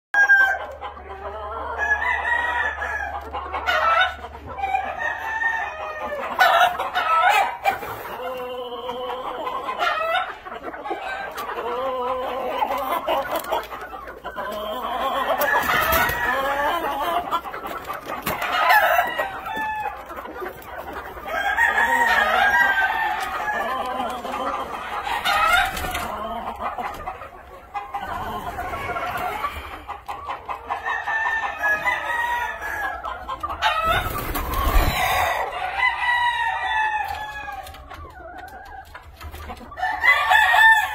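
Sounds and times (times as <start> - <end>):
chickens clucking: 0.2 - 40.9.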